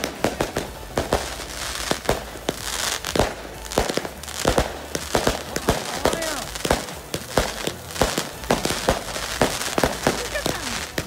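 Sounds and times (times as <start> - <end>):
bonfire cracks and bangs: 0.0 - 11.0
bonfire hiss: 0.0 - 11.0.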